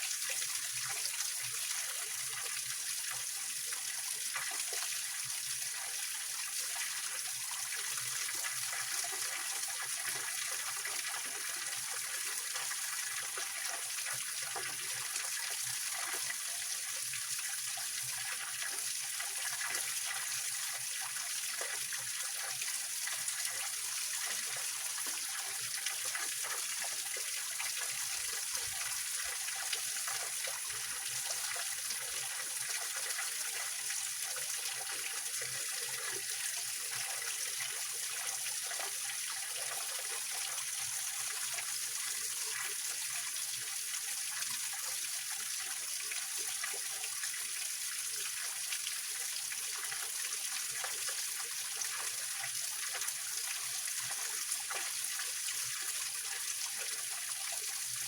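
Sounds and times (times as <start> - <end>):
small waterfall splashing over rocks: 0.0 - 58.0.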